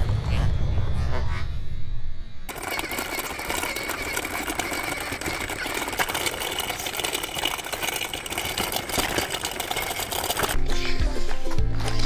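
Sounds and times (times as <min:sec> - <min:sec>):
electric motor and gear whine: 0:00.0 - 0:10.6.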